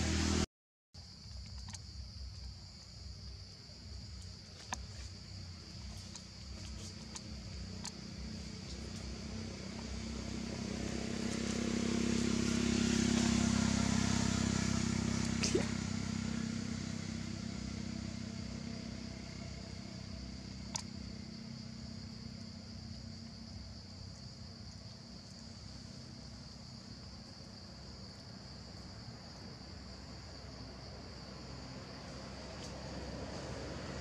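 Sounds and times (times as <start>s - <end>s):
motor vehicle passing: 0.0s - 0.5s, 3.8s - 34.0s
insects droning: 1.0s - 34.0s.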